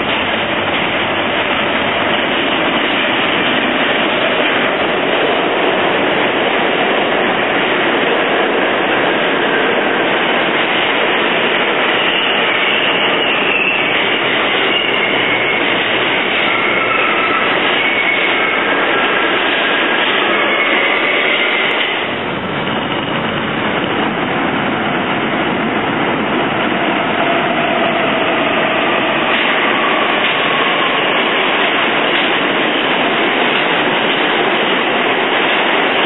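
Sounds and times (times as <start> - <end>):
subway train running past: 0.0 - 36.0.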